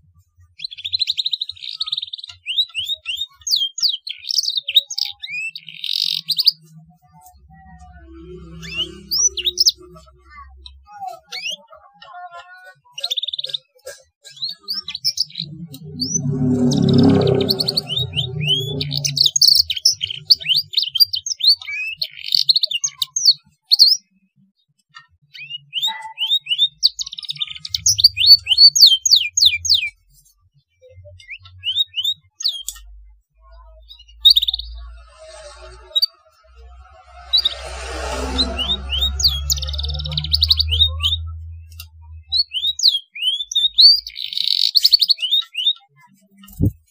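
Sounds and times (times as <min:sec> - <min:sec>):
canary singing: 0:00.6 - 0:11.8, 0:12.6 - 0:24.0, 0:25.3 - 0:30.0, 0:31.1 - 0:46.8.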